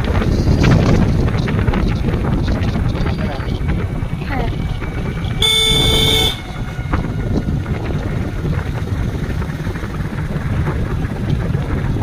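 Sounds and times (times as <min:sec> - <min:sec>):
motorcycle engine rumble: 0:00.0 - 0:12.0
wind buffeting microphone: 0:00.0 - 0:12.0.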